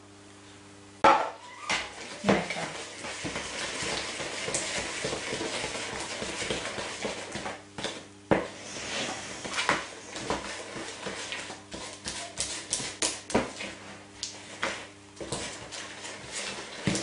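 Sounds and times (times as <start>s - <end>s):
spatula scraping batter in bowl: 1.8s - 17.0s.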